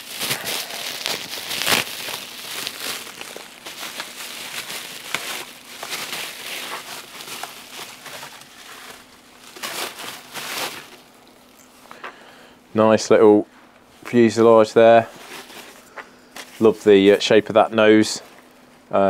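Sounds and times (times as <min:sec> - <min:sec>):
bubble wrap crinkling: 0:00.0 - 0:11.8, 0:15.0 - 0:18.8.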